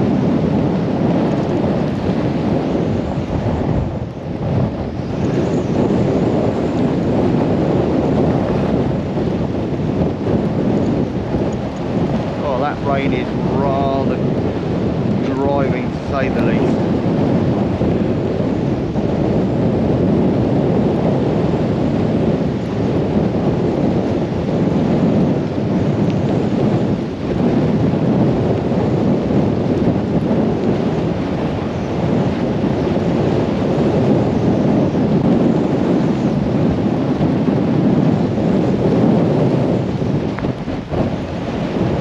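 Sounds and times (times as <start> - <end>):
driving rain: 0.0 - 42.0
wind buffeting microphone: 0.0 - 42.0.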